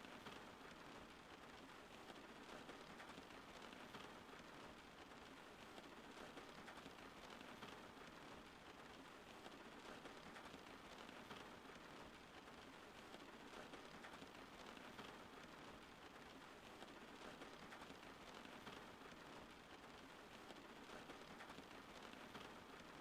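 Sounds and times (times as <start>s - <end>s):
soft rain patter: 0.0s - 23.0s.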